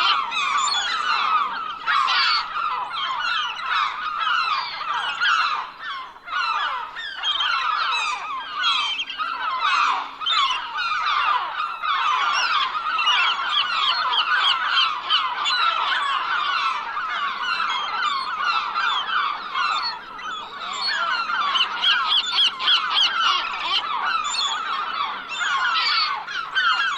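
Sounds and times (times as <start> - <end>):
flock of gulls calling: 0.0 - 26.9.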